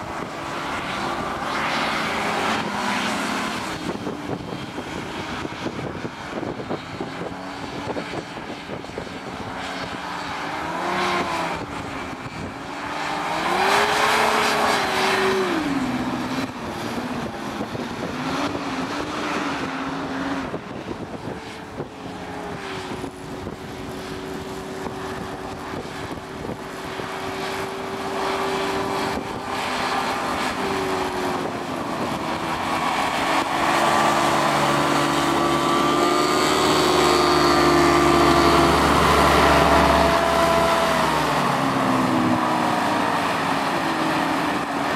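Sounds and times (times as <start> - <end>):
hovercraft engine and propeller: 0.0 - 44.9.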